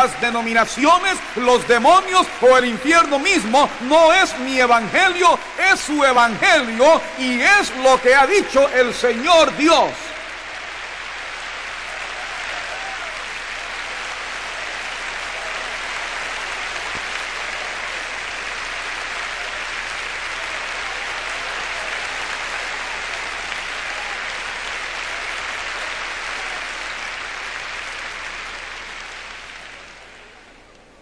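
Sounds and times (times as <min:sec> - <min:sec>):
crowd applauding: 0:00.0 - 0:31.0.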